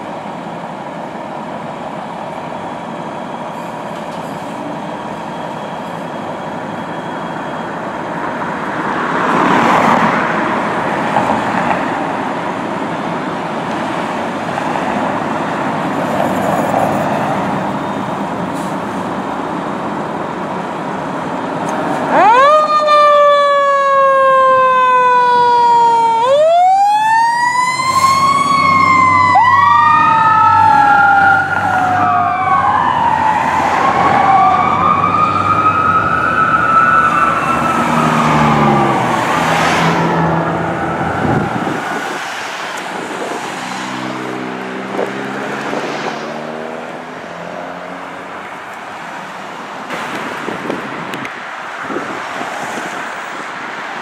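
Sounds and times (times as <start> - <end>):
emergency sirens wailing: 0.0 - 54.0
road traffic passing: 0.0 - 54.0.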